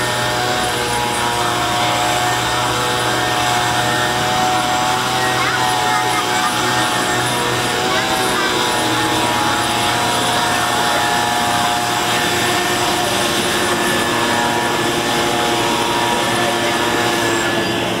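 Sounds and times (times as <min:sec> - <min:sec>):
leaf blower running: 0:00.0 - 0:18.0.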